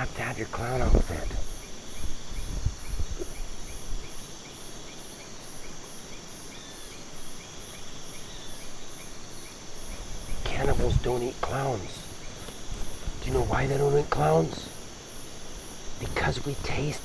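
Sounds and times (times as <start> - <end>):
high pulsing insect trill: 0.0 - 17.0
soft insect chirps: 0.0 - 17.0
steady high insect buzz: 0.0 - 17.0.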